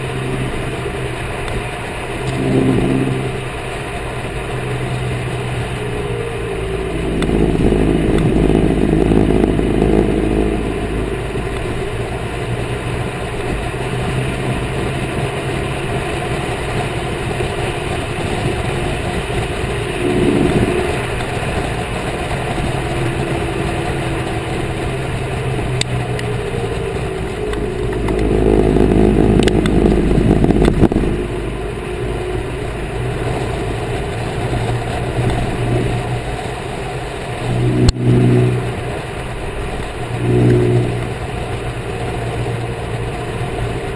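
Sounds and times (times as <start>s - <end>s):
car engine driving: 0.0s - 43.9s
road noise: 0.0s - 43.9s.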